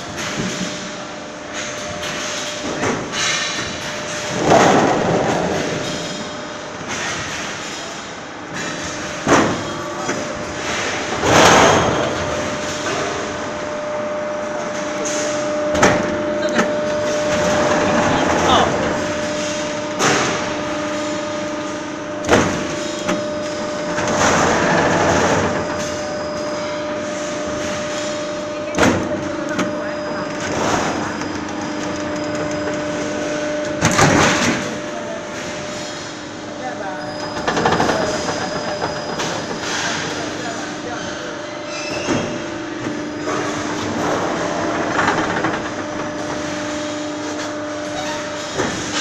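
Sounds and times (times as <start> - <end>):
roll forming machine humming: 0.0 - 49.0.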